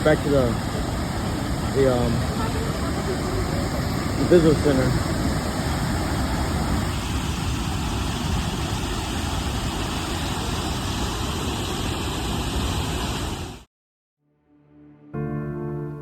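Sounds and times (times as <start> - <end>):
waterfall roaring: 0.0 - 13.6.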